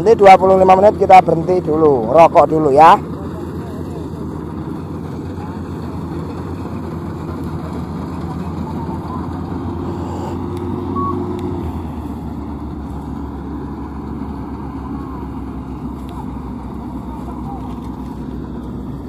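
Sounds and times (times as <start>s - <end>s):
combine harvester engine droning: 0.0s - 19.0s.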